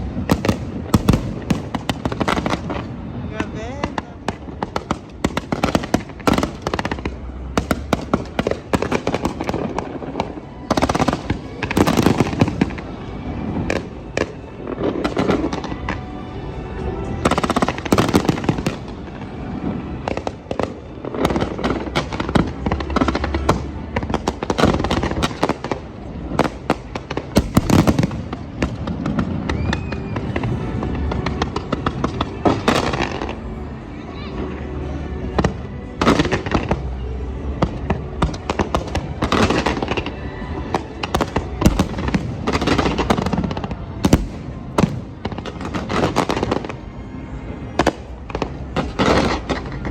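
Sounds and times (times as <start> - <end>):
fireworks bangs and crackling: 0.0 - 49.9
music playing: 0.0 - 49.9.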